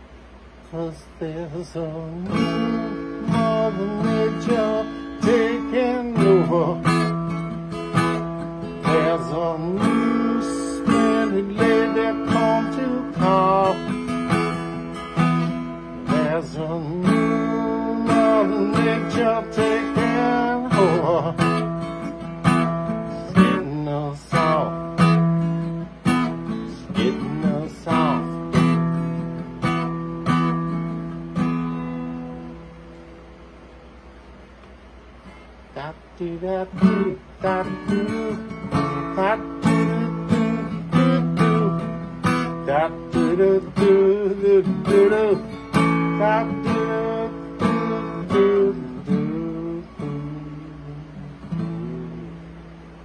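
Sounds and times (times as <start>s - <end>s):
acoustic guitar strumming chords: 0.0s - 53.0s
man singing: 0.6s - 30.6s, 35.7s - 52.6s.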